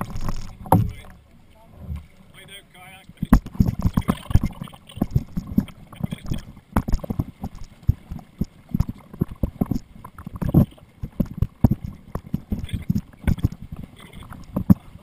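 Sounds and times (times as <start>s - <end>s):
paddle knocks and splashes: 0.0s - 2.3s, 3.1s - 15.0s.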